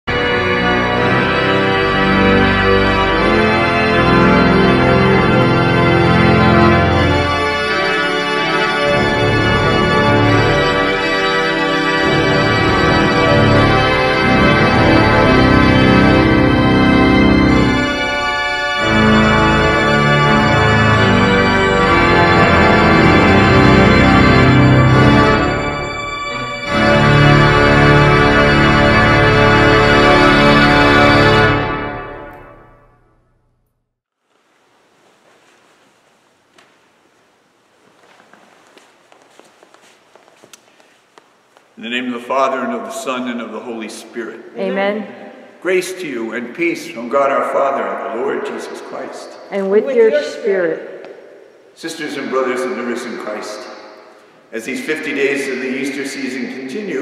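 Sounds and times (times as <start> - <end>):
church organ chords: 0.1 - 33.3, 41.8 - 57.0.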